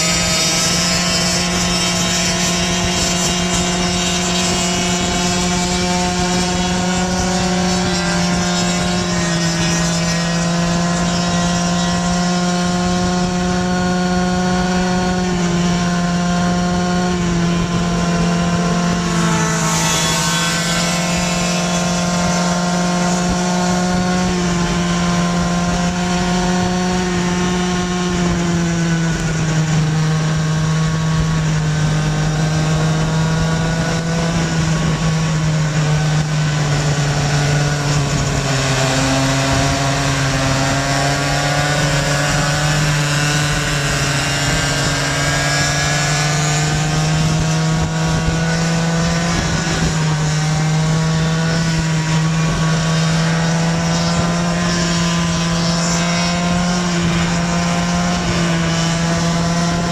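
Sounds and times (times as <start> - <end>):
two-stroke scooter engines running: 0.0 - 59.9.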